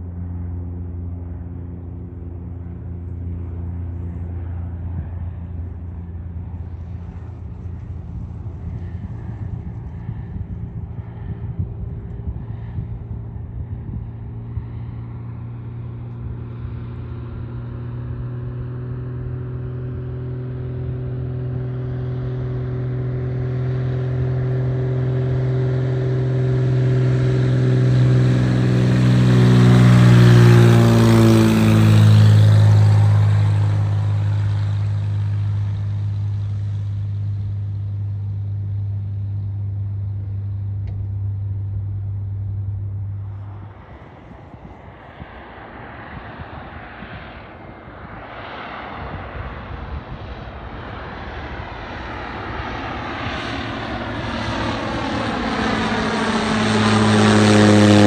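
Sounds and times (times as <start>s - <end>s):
propeller plane engine: 0.0s - 58.0s.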